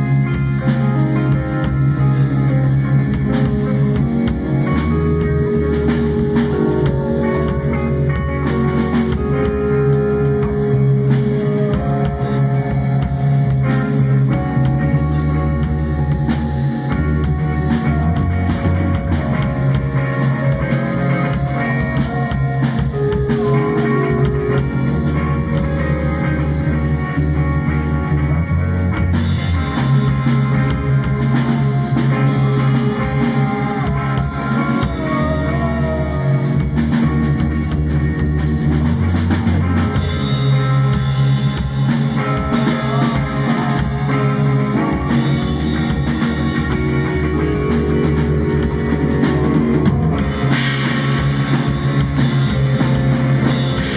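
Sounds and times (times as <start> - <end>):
drum kit steady beat: 0.0 - 53.9
wavering electric guitar lines: 0.0 - 53.9.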